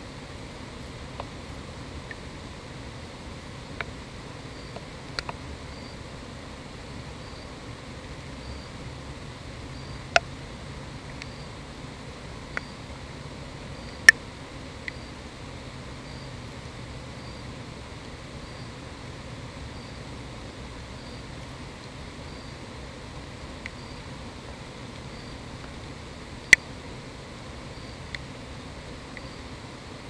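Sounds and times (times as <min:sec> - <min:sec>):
insect chirping: 0:00.0 - 0:30.0
steady hiss: 0:00.0 - 0:30.0.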